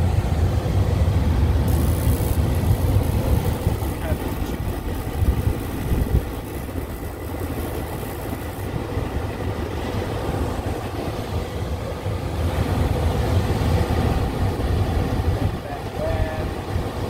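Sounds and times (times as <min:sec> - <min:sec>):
motor humming with faint whine: 0:00.0 - 0:17.0.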